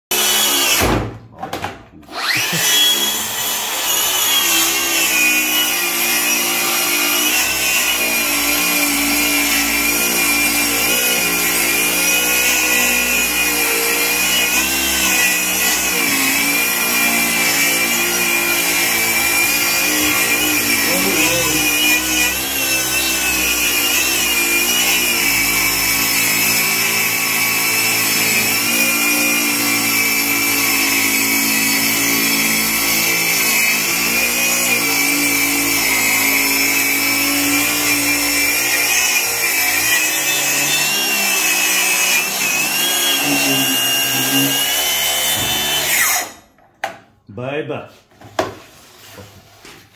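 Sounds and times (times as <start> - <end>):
circular saw cutting timber: 0.0 - 0.8, 2.0 - 46.5.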